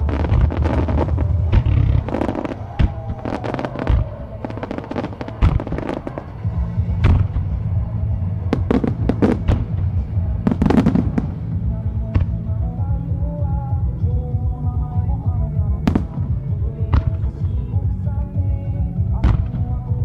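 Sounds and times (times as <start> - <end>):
fireworks bangs and crackles: 0.0 - 20.0
music from loudspeakers: 0.0 - 20.0.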